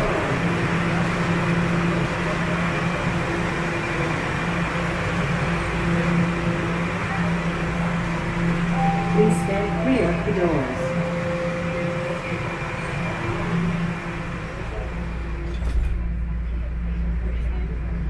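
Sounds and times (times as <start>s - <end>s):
constant low hum: 0.0s - 18.0s
subway train rumble: 0.0s - 18.0s.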